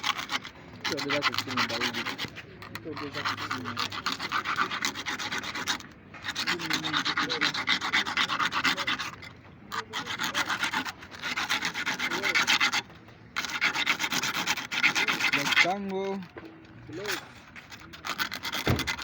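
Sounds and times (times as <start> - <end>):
abrasive rubbing: 0.0 - 19.0.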